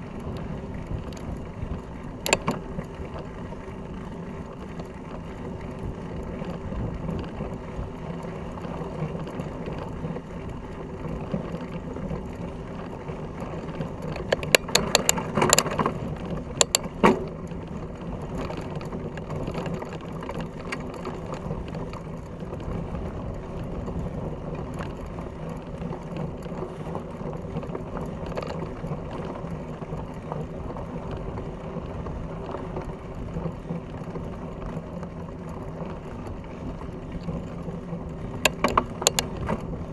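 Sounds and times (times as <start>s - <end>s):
bike tyres rumbling on dirt: 0.0s - 39.9s.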